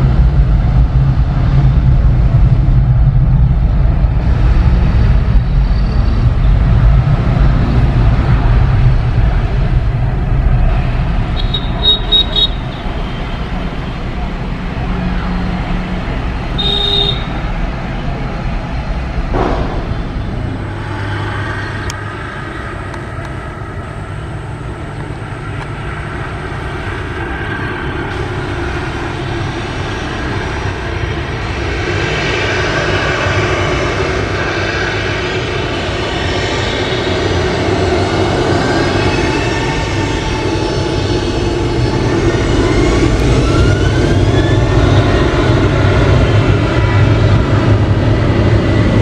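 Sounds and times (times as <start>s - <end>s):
jet engines running: 0.0s - 49.0s
steady engine whine: 0.0s - 49.0s.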